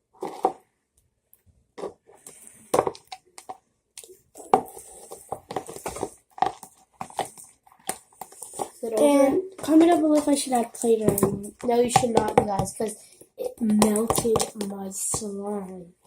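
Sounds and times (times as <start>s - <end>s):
things handled at a table: 1.4s - 15.3s.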